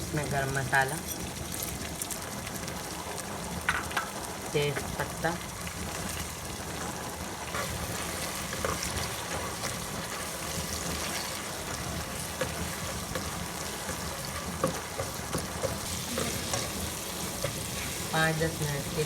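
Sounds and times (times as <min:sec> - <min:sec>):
onions and spices sizzling in oil: 0:00.0 - 0:19.0.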